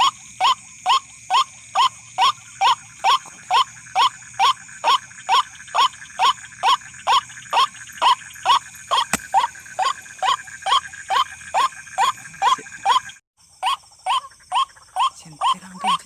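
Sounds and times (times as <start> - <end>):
waterhen harsh call: 0.0 - 16.0.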